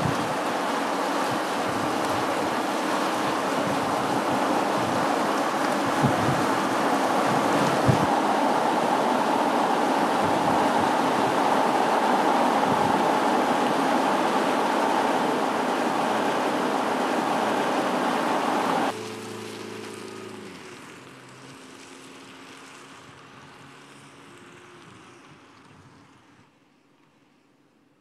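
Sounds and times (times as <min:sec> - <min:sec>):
engine hum: 0:00.0 - 0:26.5
road and wind noise: 0:00.0 - 0:27.7.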